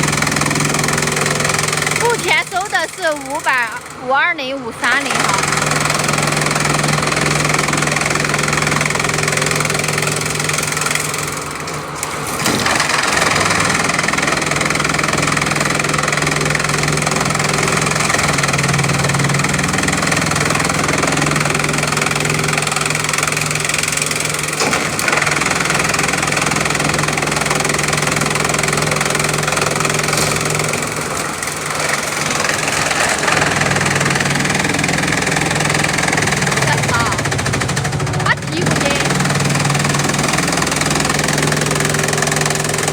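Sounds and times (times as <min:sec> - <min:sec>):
wood chipping noise: 0:00.0 - 0:04.0, 0:04.9 - 0:42.9
engine hum: 0:00.0 - 0:42.9.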